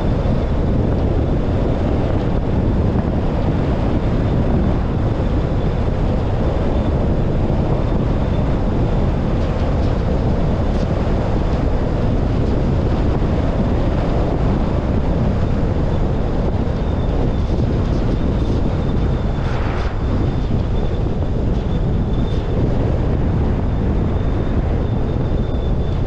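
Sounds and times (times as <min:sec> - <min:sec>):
car road noise: 0:00.0 - 0:25.2
wind buffeting microphone: 0:00.0 - 0:26.0.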